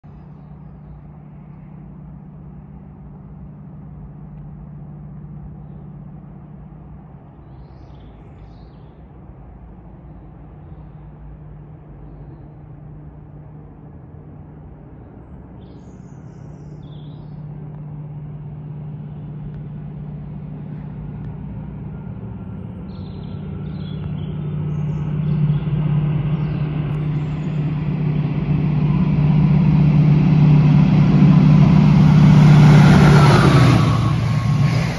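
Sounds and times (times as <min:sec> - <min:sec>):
locomotive engine drone: 0:00.0 - 0:34.9
rail and wheel noise: 0:00.0 - 0:34.9.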